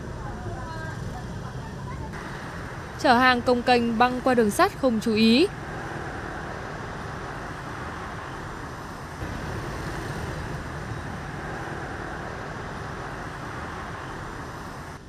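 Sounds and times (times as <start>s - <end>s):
motorbikes and cars passing: 0.0s - 15.0s.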